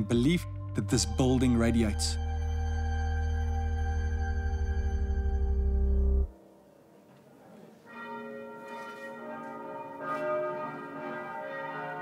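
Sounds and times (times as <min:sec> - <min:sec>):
church bells ringing: 0:00.0 - 0:06.6, 0:07.8 - 0:12.0.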